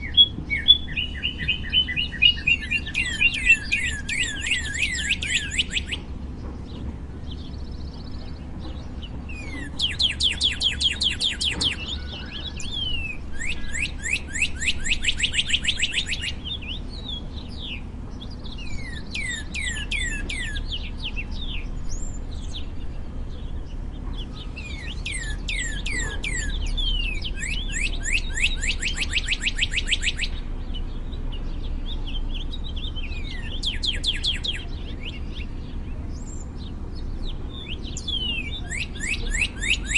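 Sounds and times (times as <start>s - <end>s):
bird singing whistled notes: 0.0s - 39.9s
low background rumble: 0.0s - 39.9s.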